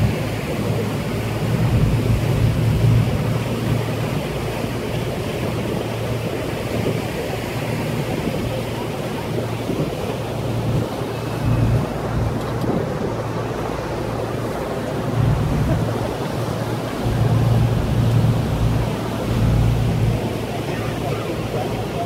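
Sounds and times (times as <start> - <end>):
boat noise: 0.0 - 22.0
water rushing: 0.0 - 22.0
wind buffeting microphone: 0.0 - 22.0.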